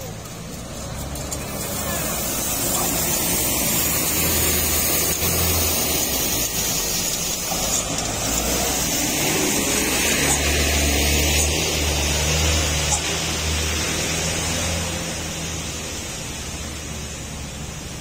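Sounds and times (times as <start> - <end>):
even hiss: 0.0 - 18.0
truck engines humming: 0.0 - 18.0.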